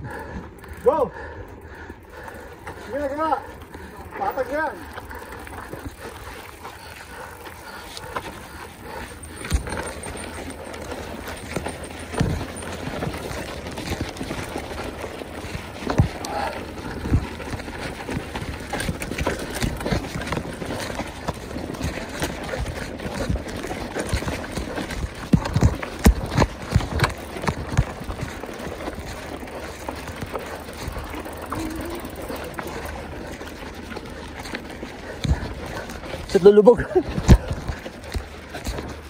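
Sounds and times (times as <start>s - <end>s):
bike rushing over rough ground: 0.0s - 39.0s
bike knocks and rattles: 7.4s - 39.0s.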